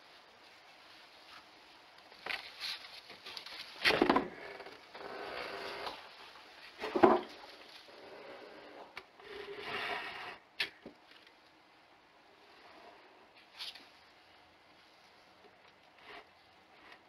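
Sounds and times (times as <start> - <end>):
rustling and scraping on camera: 0.0 - 10.4, 12.4 - 17.0.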